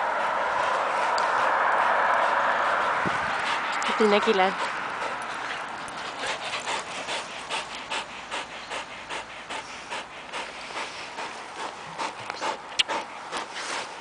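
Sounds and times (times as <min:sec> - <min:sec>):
dog panting hard: 0:00.0 - 0:14.0.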